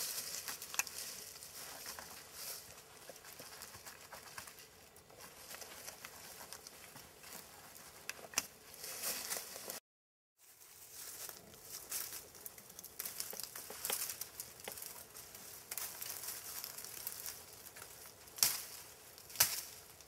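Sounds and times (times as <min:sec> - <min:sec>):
dry leaves rustling and crackling: 0:00.0 - 0:09.8, 0:10.4 - 0:20.0.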